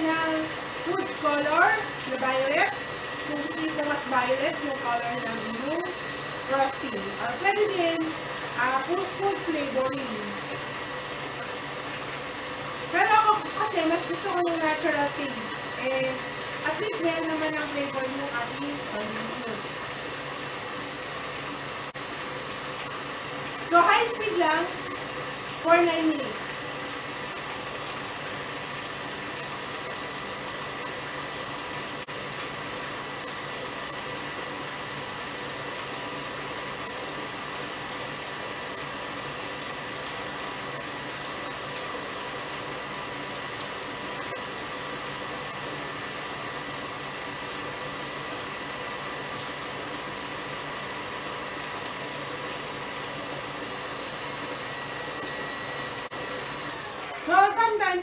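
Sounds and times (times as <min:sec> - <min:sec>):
stand mixer whirring: 0:00.0 - 0:58.0.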